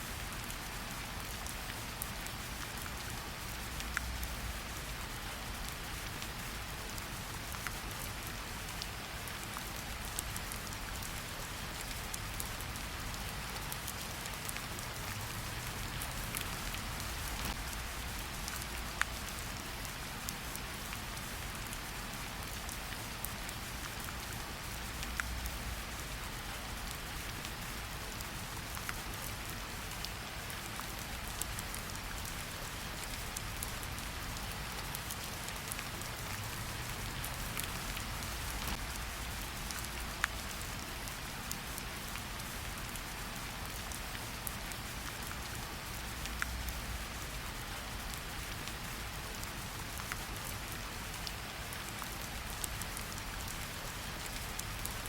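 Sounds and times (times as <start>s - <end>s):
steady rain in forest: 0.0s - 55.0s.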